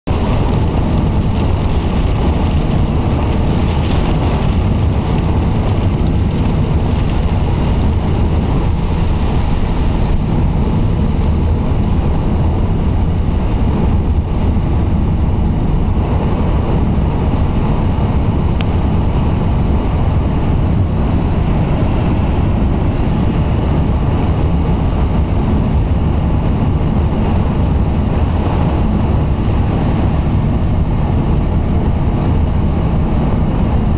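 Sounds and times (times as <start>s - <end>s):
car engine and tyre noise: 0.0s - 33.9s.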